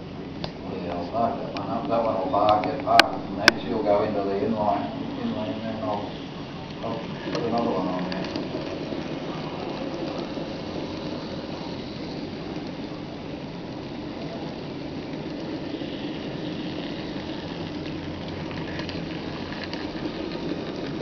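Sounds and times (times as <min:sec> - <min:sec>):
model train whirring rumble: 0:00.0 - 0:21.0.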